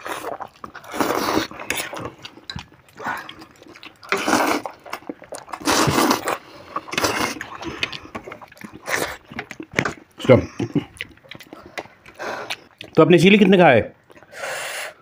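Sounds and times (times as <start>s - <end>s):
noodles being slurped: 0.0s - 13.0s.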